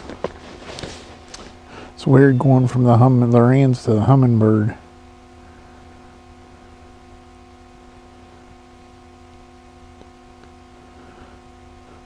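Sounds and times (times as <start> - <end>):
faint tonal hum: 0.0 - 12.0
low rumble and hiss: 0.0 - 12.0.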